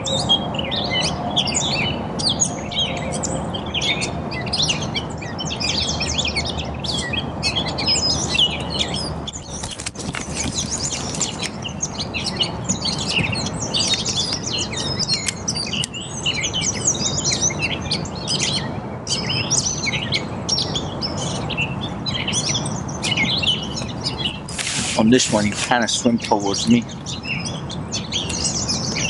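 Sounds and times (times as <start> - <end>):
songbirds chirping and singing: 0.0 - 29.0.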